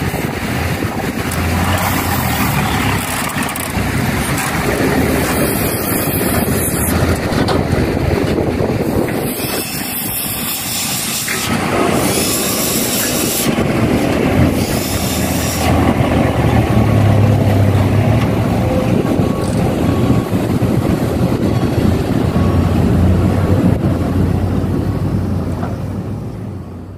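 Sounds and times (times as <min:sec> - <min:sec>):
heavy diesel engines running: 0:00.0 - 0:26.9.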